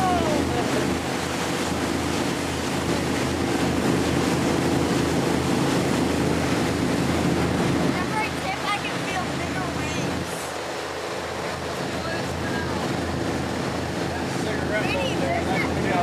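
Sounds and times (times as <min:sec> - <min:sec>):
boat motor droning: 0:00.0 - 0:16.0
wind and water rushing: 0:00.0 - 0:16.0.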